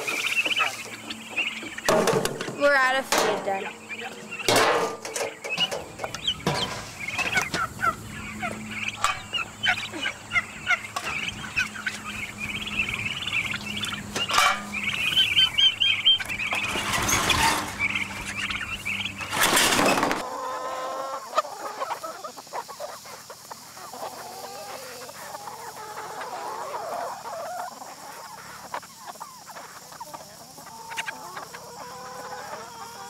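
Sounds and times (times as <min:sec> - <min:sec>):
chickens chirping and peeping: 0:00.0 - 0:33.0.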